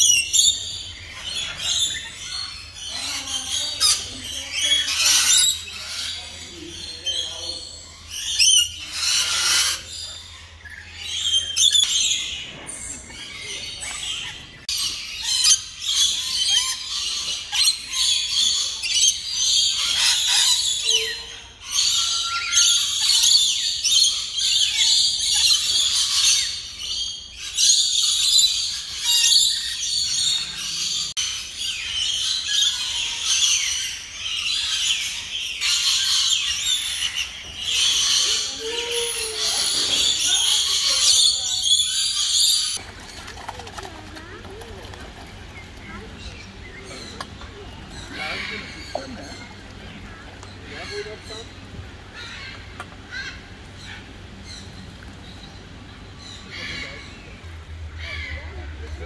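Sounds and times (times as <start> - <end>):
parrots squawking and chattering: 0.0 - 59.0.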